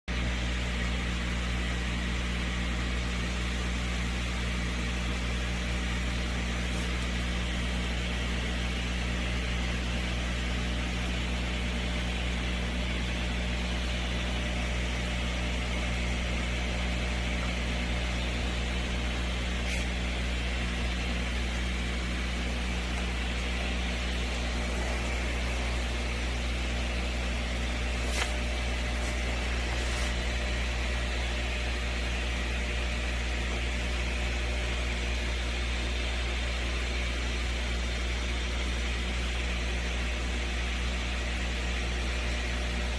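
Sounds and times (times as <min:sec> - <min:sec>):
aquarium pump hum: 0:00.1 - 0:42.9.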